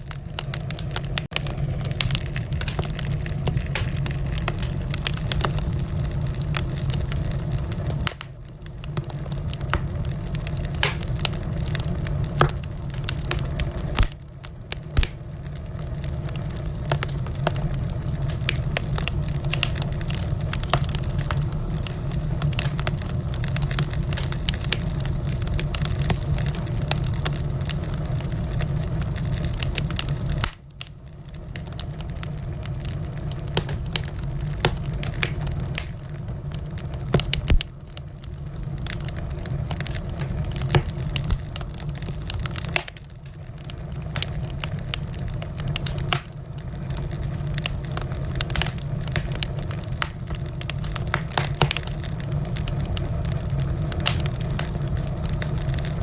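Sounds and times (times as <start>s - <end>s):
fire crackling in a fireplace: 0.0s - 56.0s.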